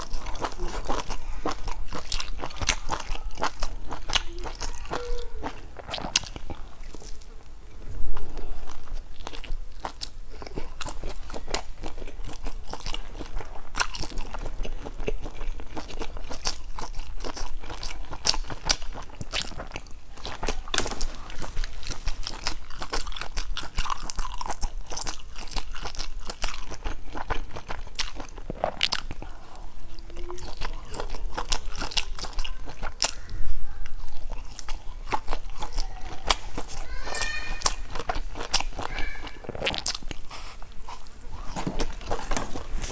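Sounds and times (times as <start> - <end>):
crunchy food being chewed: 0.0 - 42.9.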